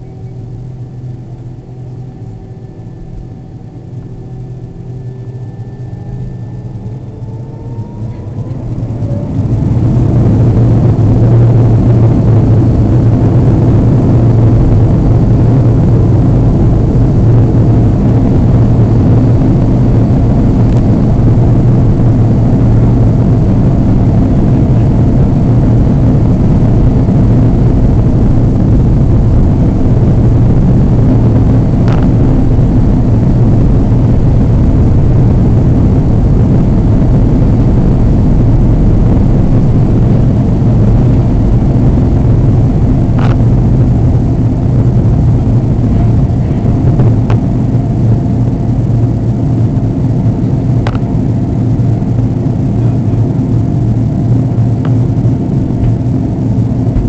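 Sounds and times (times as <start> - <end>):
airliner cabin engine hum: 0.0 - 57.0.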